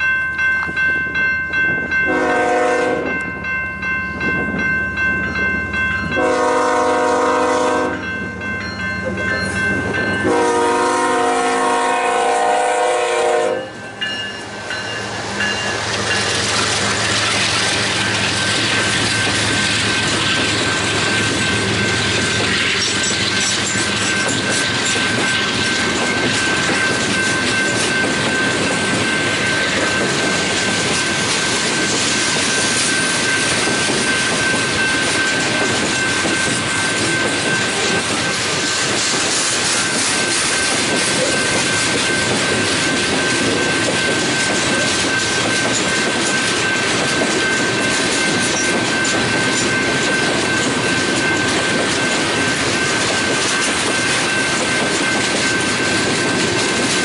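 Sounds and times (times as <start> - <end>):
train wheels rumbling and rattling: 0.0 - 57.0.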